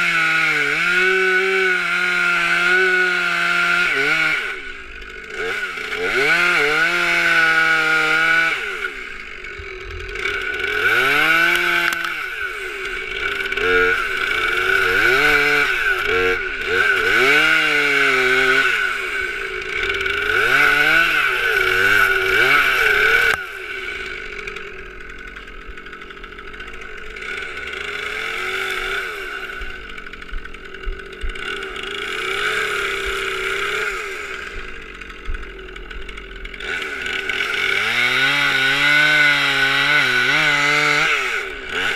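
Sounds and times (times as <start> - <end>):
chainsaw cutting: 0.0 - 41.9.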